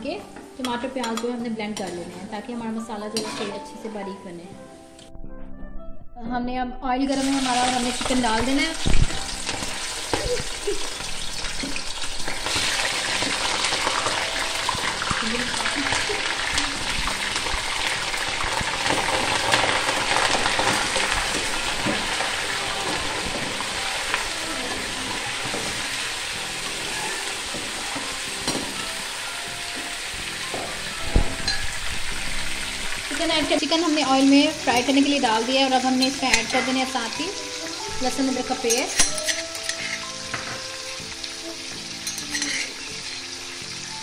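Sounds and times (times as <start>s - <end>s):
chicken sizzling in hot oil: 7.1s - 44.0s.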